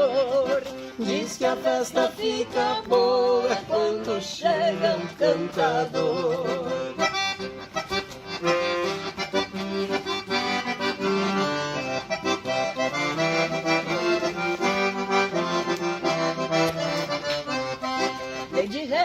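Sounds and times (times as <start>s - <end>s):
accordion playing folk music: 0.0s - 19.0s.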